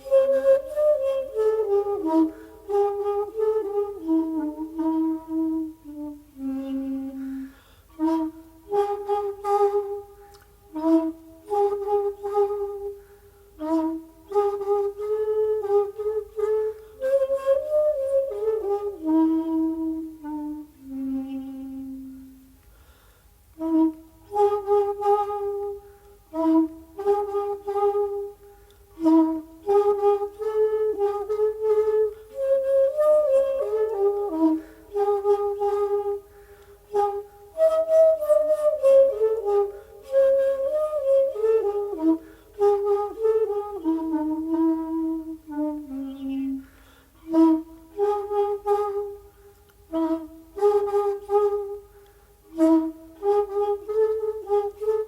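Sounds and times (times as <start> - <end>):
bamboo flute playing slow notes: 0.0 - 55.0.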